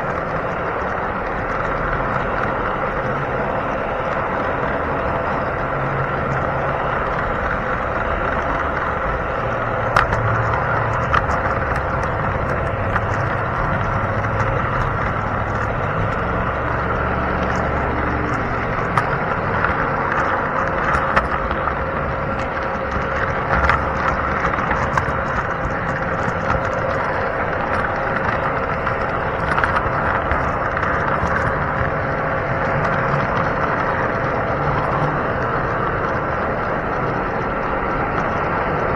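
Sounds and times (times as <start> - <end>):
model train running whine: 0.0 - 38.9.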